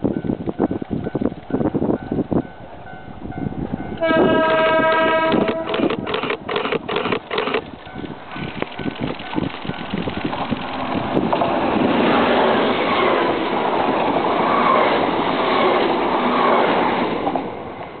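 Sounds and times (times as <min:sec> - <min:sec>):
diesel train passing: 0:00.0 - 0:06.5, 0:07.2 - 0:18.0.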